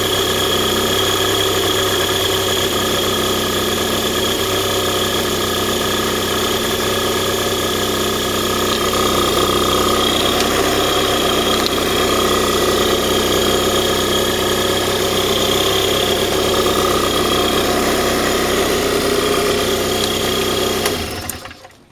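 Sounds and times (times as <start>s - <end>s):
car engine running with abnormal noise: 0.0s - 21.9s.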